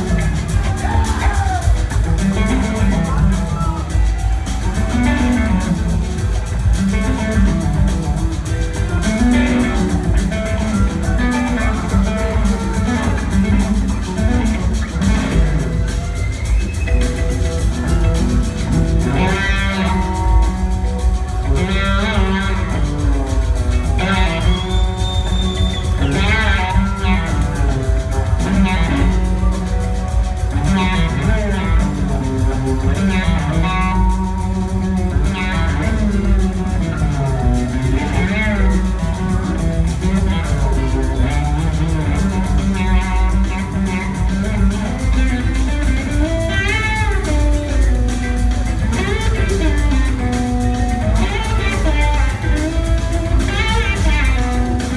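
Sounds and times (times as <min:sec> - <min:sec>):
bass and drums: 0:00.0 - 0:54.9.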